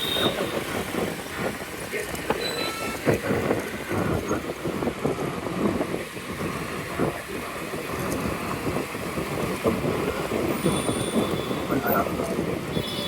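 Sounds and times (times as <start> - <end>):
road and traffic noise: 0.0 - 13.0
wind buffeting microphone: 0.0 - 13.0.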